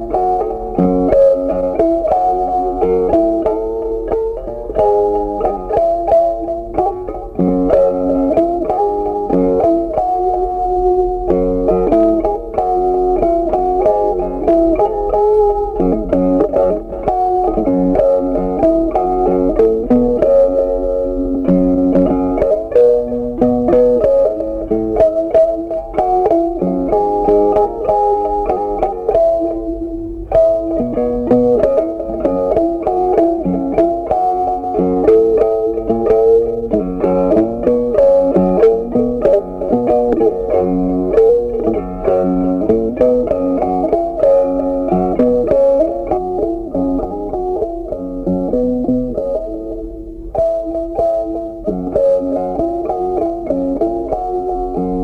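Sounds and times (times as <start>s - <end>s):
plucked guitar melody: 0.0s - 55.0s
steady beat: 0.0s - 55.0s.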